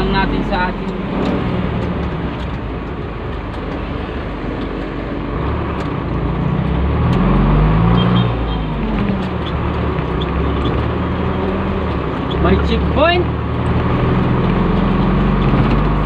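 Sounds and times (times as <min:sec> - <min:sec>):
diesel engine and road noise: 0:00.0 - 0:16.0.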